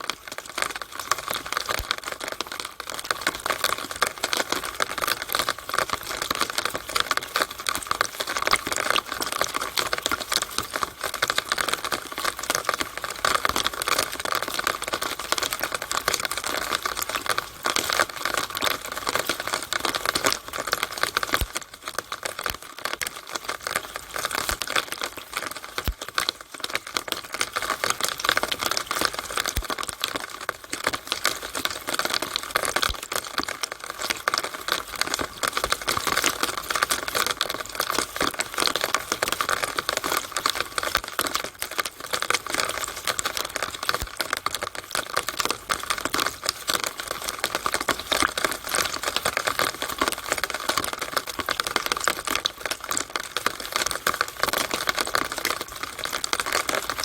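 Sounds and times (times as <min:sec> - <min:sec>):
rainwater running through downspout: 0:00.0 - 0:57.0.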